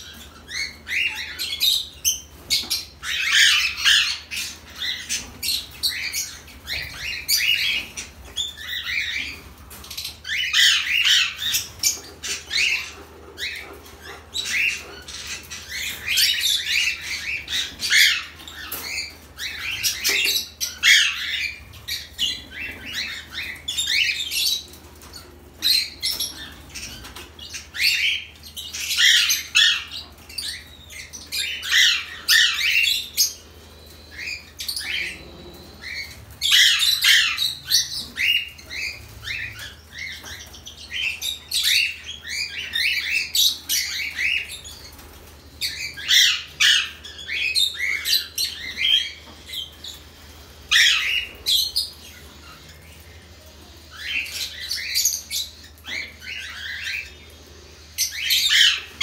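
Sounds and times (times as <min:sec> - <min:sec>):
birds chirping and squawking: 0:00.0 - 0:59.0.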